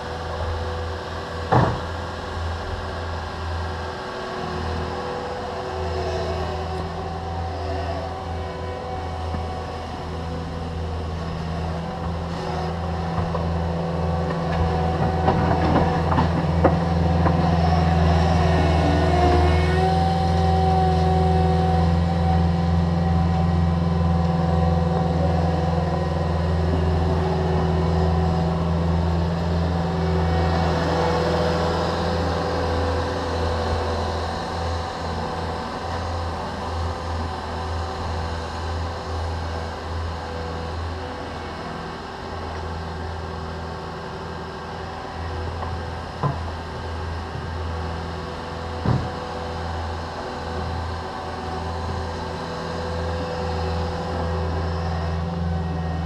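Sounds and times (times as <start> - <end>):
diesel engines droning with whine: 0.0 - 56.0.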